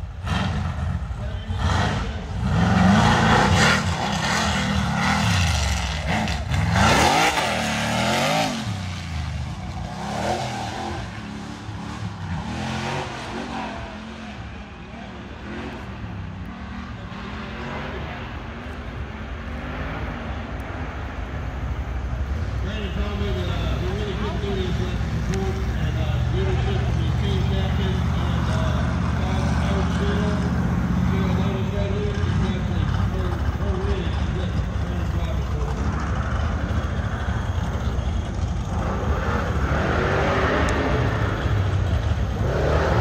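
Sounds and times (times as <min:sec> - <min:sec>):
race vehicle engine revving: 0:00.0 - 0:20.8, 0:22.2 - 0:43.0.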